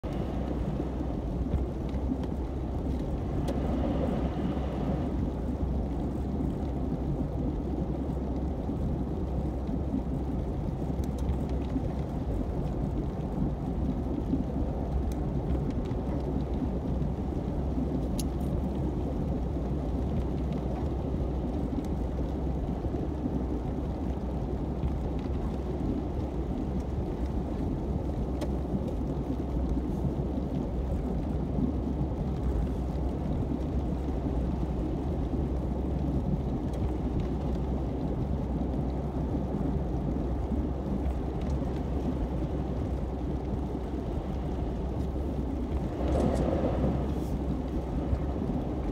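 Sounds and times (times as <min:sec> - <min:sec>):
car tyres and engine rumble: 0:00.0 - 0:48.9.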